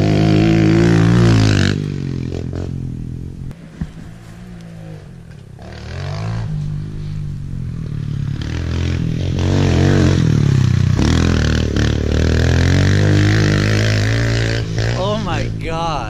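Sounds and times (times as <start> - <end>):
motorbike engine revving: 0.0 - 15.6.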